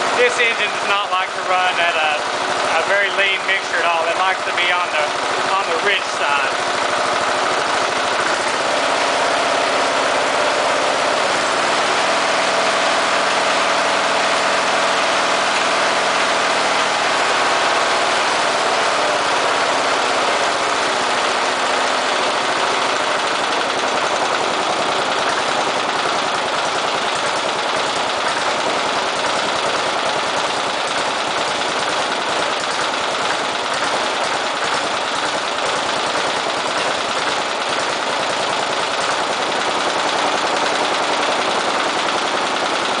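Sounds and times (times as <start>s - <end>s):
lawn mower engine idling: 0.0s - 43.0s.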